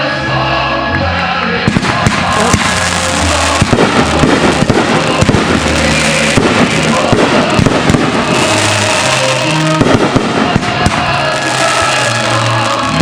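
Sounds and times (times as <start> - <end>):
fireworks bangs and crackles: 1.6 - 13.0.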